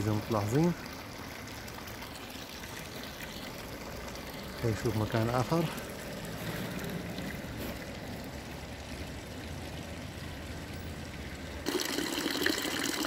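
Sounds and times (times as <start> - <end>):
street ambience hiss: 0.0 - 13.0.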